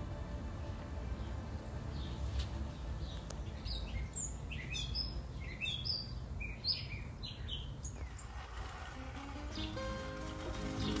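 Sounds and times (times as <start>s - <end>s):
small birds chirping: 1.1s - 8.5s, 9.2s - 11.0s.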